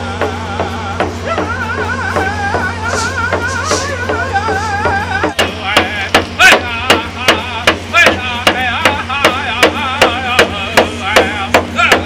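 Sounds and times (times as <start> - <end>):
voices singing: 0.0 - 12.0.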